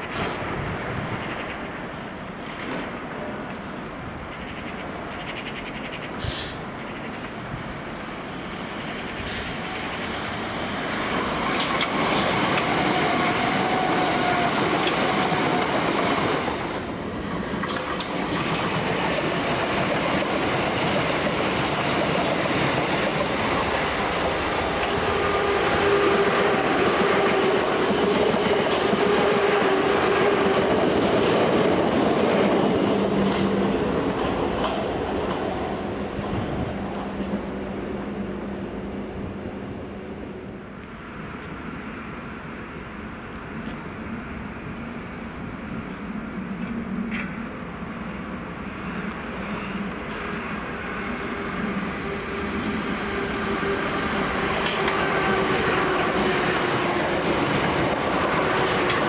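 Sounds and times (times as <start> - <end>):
train wheels on rails: 0.0 - 39.4, 40.6 - 59.0
steady train whine: 0.0 - 59.0.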